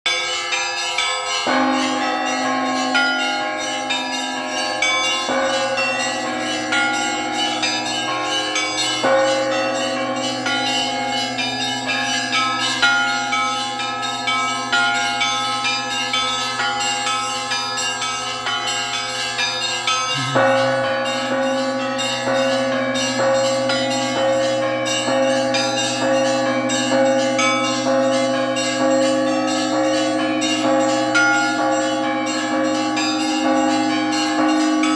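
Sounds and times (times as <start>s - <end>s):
deep church bells struck: 0.1s - 34.9s
small bells clattering: 0.7s - 34.9s.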